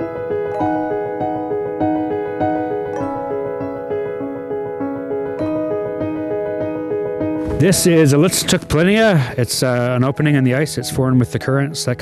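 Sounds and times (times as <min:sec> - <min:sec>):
keyboard playing repeating notes: 0:00.0 - 0:12.0.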